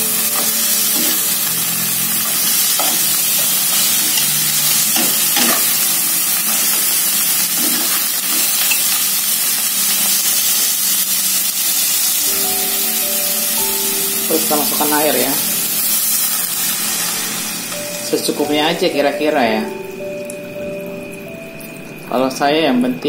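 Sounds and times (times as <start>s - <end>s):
lobsters sizzling in oil: 0.0s - 22.6s.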